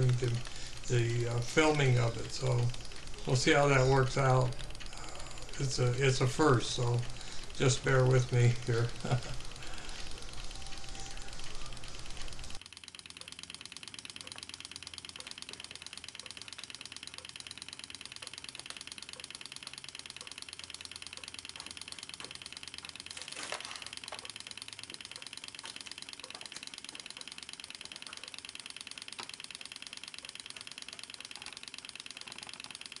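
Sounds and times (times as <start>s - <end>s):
engine mechanical clicking: 0.0s - 33.0s.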